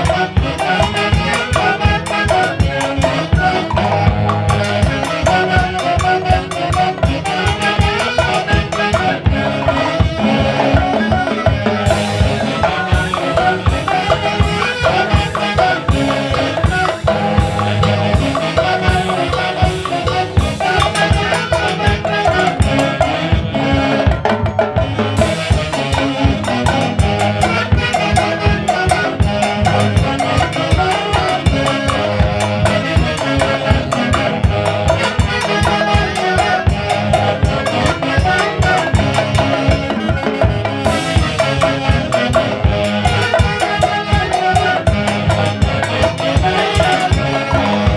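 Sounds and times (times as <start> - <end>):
drum kit beat: 0.0 - 47.9
latin dance band music: 0.0 - 47.9.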